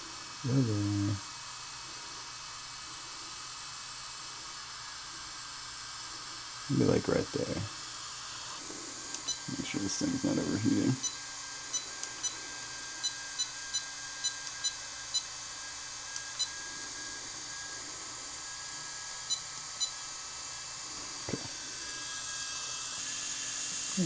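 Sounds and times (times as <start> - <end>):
cooling airflow hiss and hum: 0.0 - 24.0.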